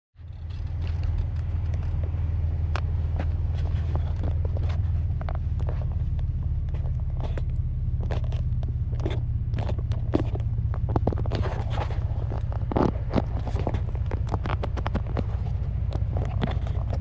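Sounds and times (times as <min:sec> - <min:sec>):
vehicle engine droning: 0:00.2 - 0:17.0.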